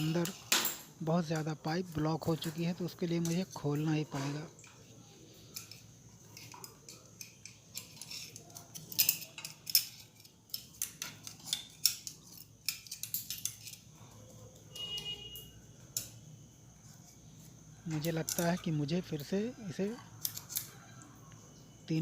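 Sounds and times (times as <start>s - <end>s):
metal tools clicking and scraping: 0.0s - 22.0s.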